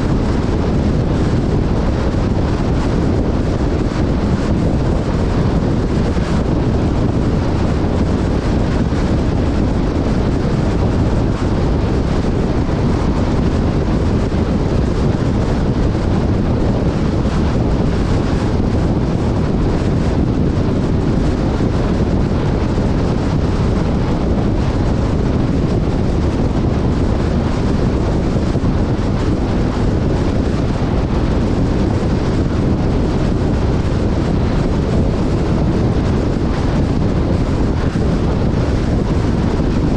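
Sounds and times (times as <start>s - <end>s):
vehicle rumble: 0.0s - 39.9s
wind rushing over microphone: 0.0s - 39.9s.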